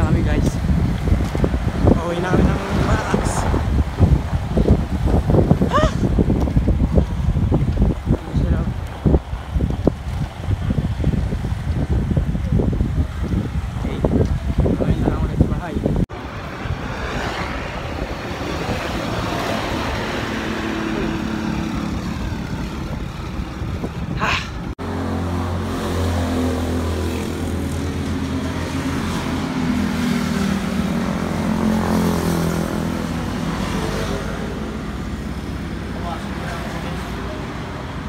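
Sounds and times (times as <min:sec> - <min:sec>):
vehicle engine humming: 0:00.0 - 0:38.0
wind and road rushing: 0:00.0 - 0:38.0.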